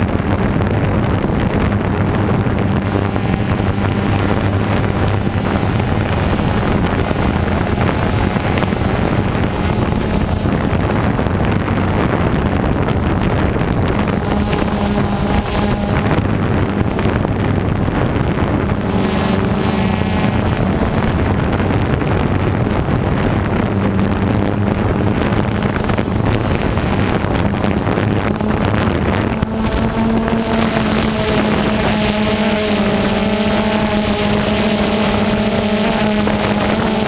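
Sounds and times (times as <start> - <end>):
drone propellers humming: 0.0 - 37.0
wind buffeting microphone: 0.0 - 37.0.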